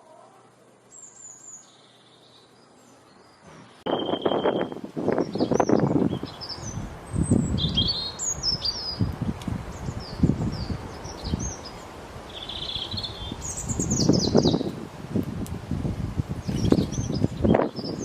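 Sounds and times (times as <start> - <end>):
small birds chirping: 0.1 - 14.8, 16.3 - 18.0.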